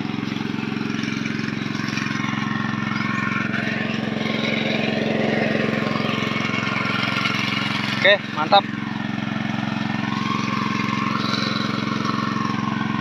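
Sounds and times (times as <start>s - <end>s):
engine-driven water pump running: 0.0s - 13.0s.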